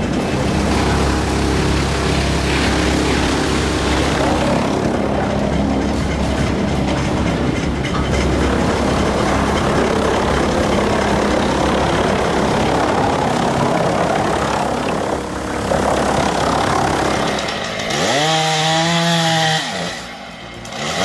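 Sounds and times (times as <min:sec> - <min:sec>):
wood chipper running: 0:00.0 - 0:21.0.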